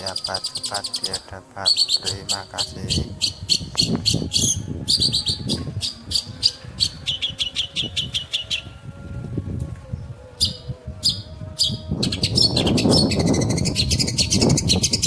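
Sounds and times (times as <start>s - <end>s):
bird singing high chirps: 0.0s - 8.8s, 10.4s - 15.0s.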